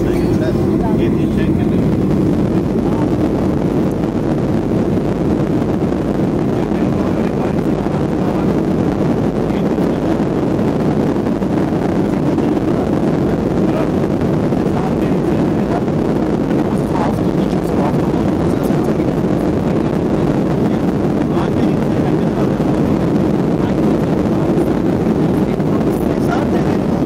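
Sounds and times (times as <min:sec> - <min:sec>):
jet engines roaring in cabin: 0:00.0 - 0:27.0.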